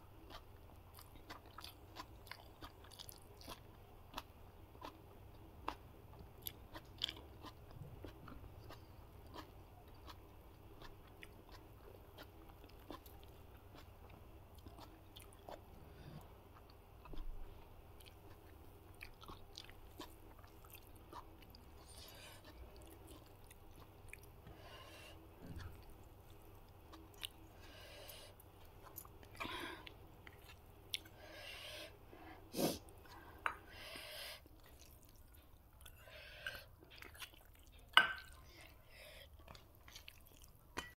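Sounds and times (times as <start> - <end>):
close chewing with mouth clicks: 0.2 - 31.4, 34.4 - 40.9.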